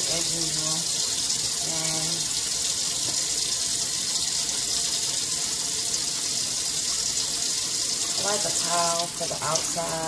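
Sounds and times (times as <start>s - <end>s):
faucet running into sink: 0.0s - 10.0s.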